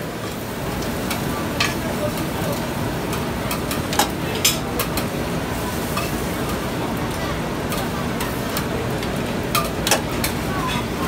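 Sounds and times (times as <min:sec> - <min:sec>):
frying on a griddle: 0:00.0 - 0:11.0
murmur of voices: 0:00.5 - 0:11.0.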